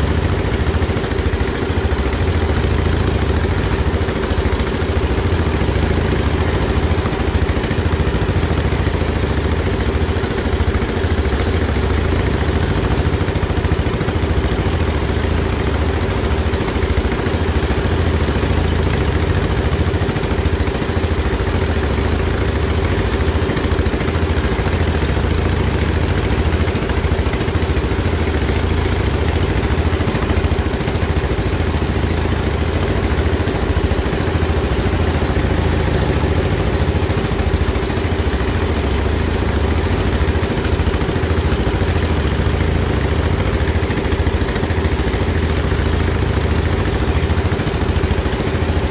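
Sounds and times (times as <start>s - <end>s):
engine pulsing hum: 0.0s - 48.9s.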